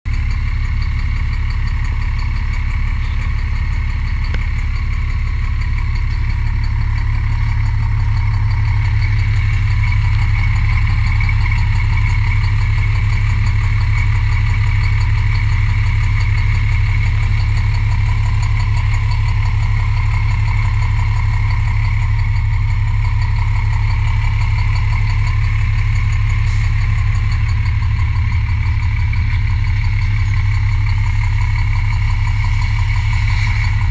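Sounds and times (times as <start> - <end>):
diesel engine idling with knock: 0.1 - 33.9.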